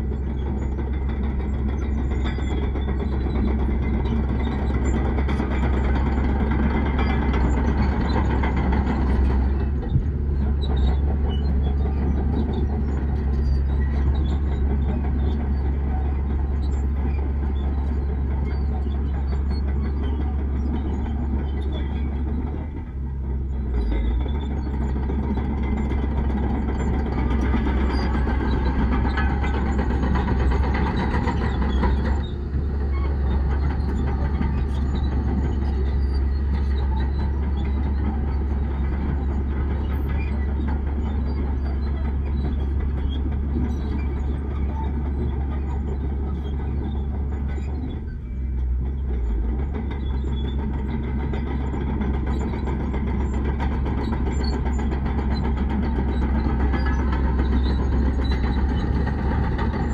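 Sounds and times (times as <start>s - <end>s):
heavy diesel machinery rumbling: 0.0s - 59.9s.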